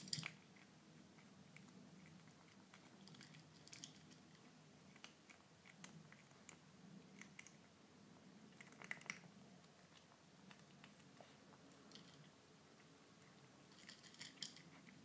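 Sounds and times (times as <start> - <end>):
kitten crunching dry kibble: 0.0 - 15.0.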